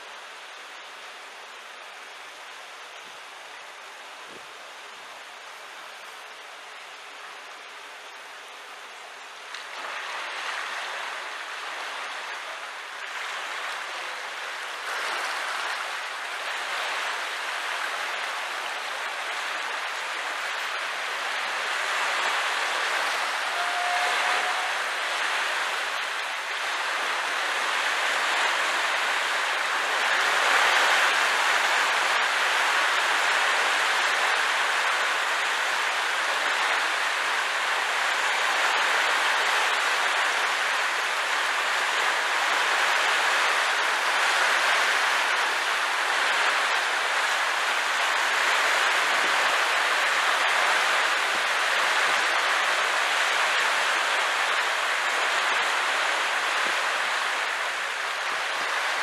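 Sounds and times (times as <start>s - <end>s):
water rushing and churning: 4.7s - 59.0s.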